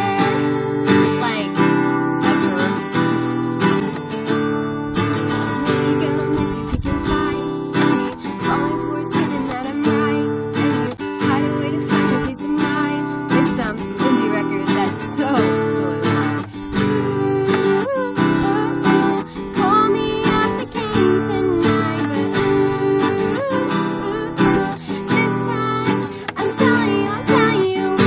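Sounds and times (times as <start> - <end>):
acoustic guitar strumming chords: 0.0 - 28.0
person singing: 0.0 - 28.0.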